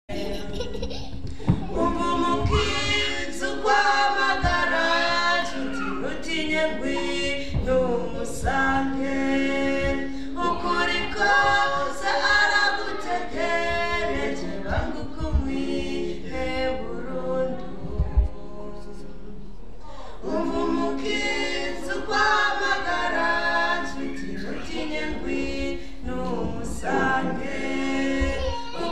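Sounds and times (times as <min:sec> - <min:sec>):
group singing gospel in harmony: 0:00.0 - 0:28.9.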